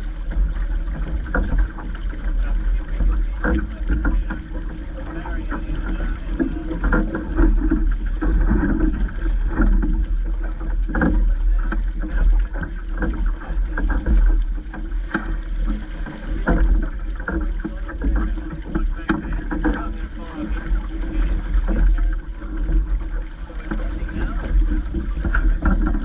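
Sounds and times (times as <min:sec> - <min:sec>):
water slapping against boat hull: 0:00.0 - 0:26.0
wind buffeting microphone: 0:00.0 - 0:26.0.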